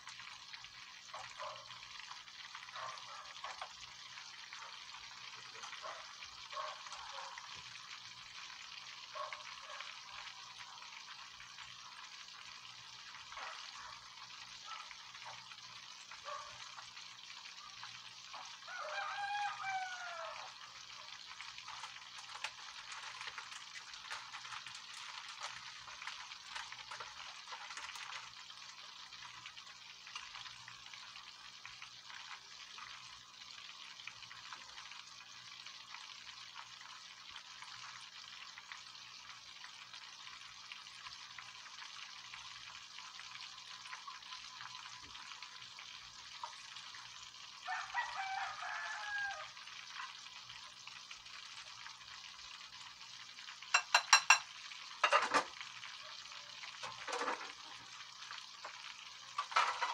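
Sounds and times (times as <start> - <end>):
fish deep-frying in oil: 0.0 - 59.9.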